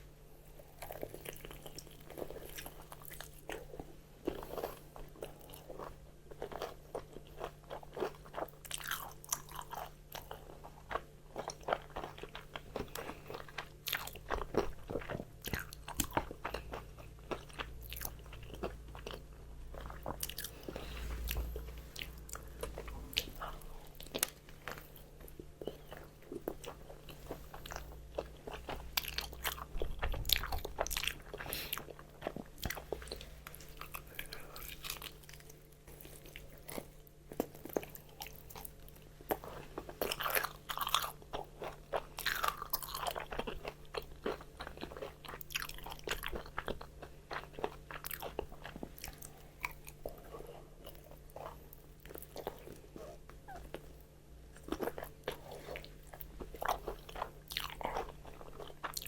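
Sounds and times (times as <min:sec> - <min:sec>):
crunchy chewing: 0:00.6 - 0:59.0.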